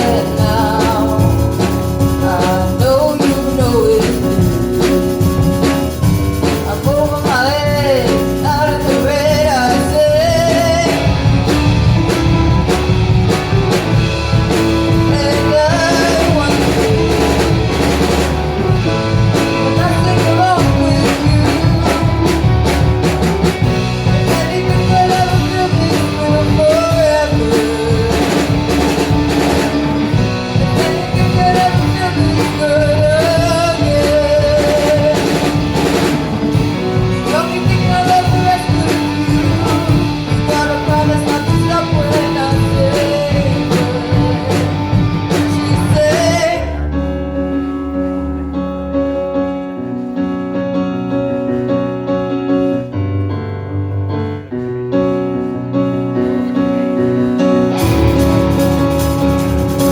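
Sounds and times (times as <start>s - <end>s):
person singing: 0.0s - 47.4s, 55.0s - 59.9s
rock band playing: 0.0s - 59.9s.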